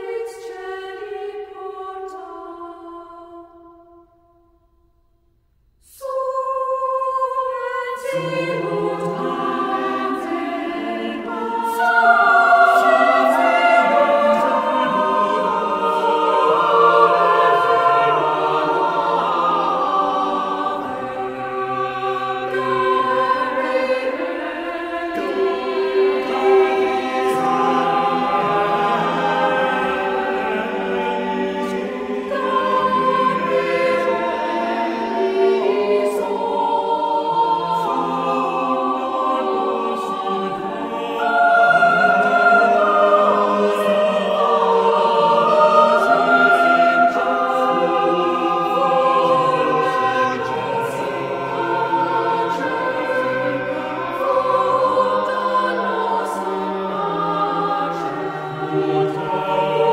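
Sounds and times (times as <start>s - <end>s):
choir singing unaccompanied: 0.0s - 4.1s, 5.8s - 59.9s.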